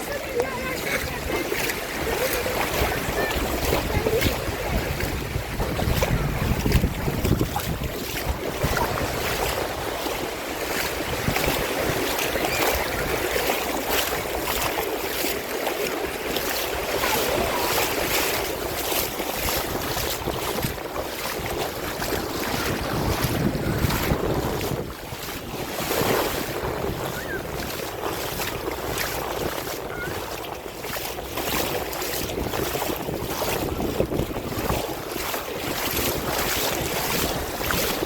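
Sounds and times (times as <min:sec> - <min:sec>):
sea water splashing: 0:00.0 - 0:38.0
wind rumbling on microphone: 0:00.0 - 0:38.0.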